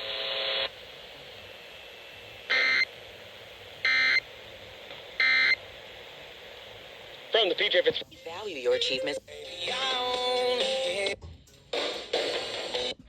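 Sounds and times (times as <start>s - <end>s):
radio static hiss: 0.0s - 10.8s.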